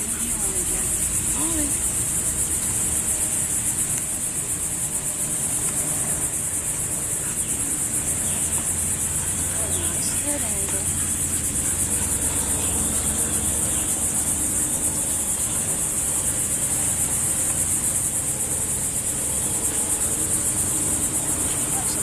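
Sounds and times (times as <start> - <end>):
insect high-pitched trill: 0.0 - 22.0.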